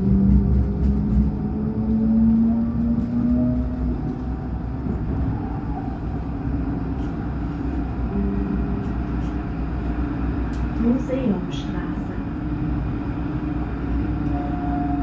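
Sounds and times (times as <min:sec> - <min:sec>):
tram running along track: 0:00.0 - 0:15.0.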